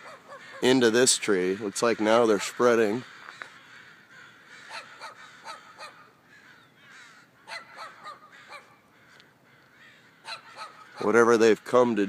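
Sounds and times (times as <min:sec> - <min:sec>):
crows cawing: 0:00.0 - 0:12.0
faint calls of other birds: 0:00.0 - 0:12.0.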